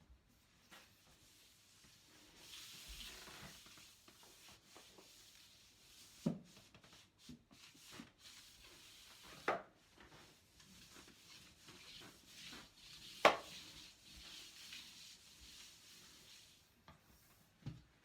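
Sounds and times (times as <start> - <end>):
floor wiper swishing: 0.7 - 7.0, 7.6 - 16.7.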